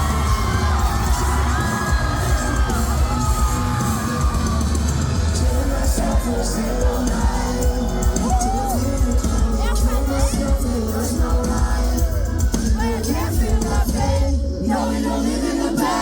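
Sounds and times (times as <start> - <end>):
live rock band playing: 0.0 - 14.1
crowd yelling: 0.0 - 16.0.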